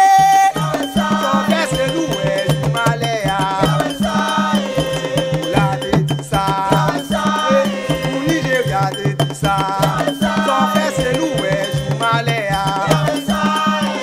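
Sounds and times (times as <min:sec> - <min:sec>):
song with pulsing bass line: 0:00.5 - 0:14.0.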